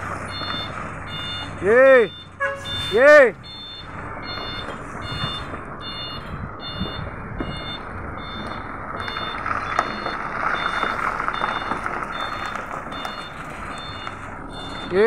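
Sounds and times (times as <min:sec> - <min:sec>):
truck engine running: 0:00.0 - 0:15.0
truck reversing alarm beeping: 0:00.0 - 0:15.0.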